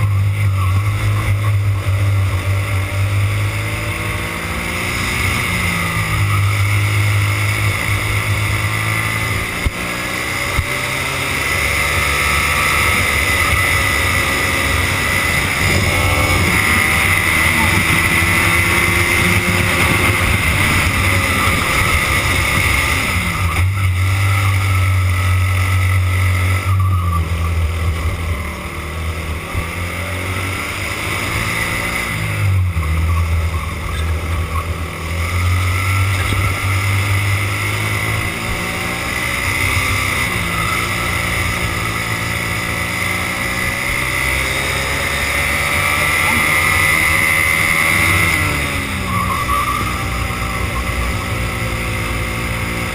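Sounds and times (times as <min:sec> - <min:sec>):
high whine: 0:00.0 - 0:52.9
kart engine revving: 0:00.0 - 0:52.9.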